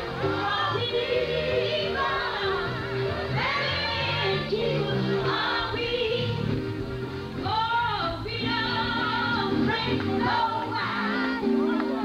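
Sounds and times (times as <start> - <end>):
choir singing gospel music: 0.0 - 12.0.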